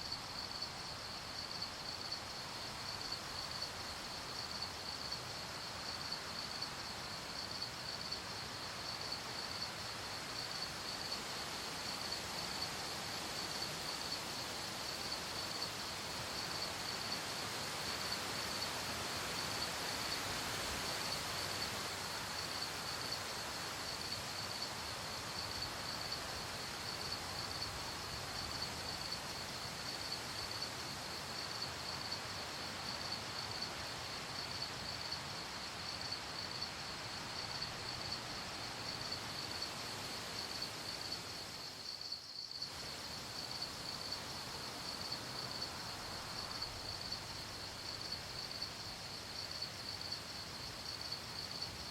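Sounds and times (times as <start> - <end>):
crickets chirping: 0.0 - 51.9
night ambience hiss: 0.0 - 51.9.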